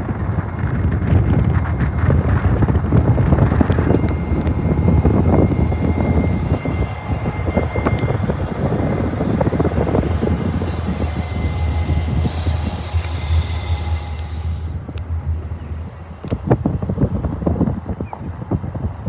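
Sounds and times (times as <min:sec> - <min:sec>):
faint thin squeal: 0:00.0 - 0:16.4
train rumble: 0:00.0 - 0:19.0
train wheels clicking: 0:00.0 - 0:19.0.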